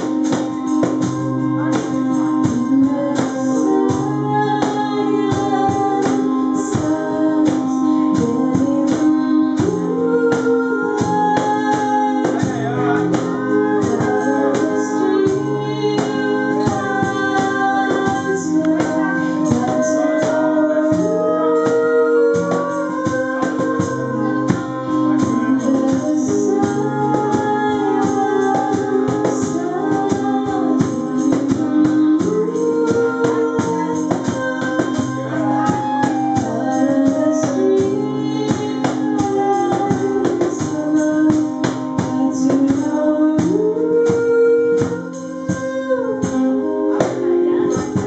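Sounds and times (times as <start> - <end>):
organ-like chords: 0.0 - 48.0
percussion beat: 0.0 - 48.0.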